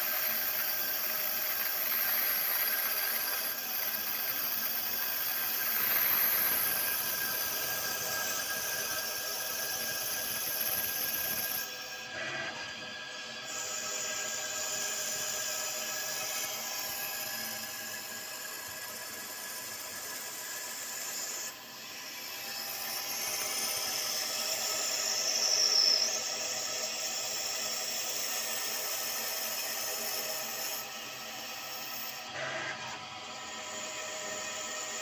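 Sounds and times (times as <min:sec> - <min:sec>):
lathe machine whine: 0:00.0 - 0:35.0.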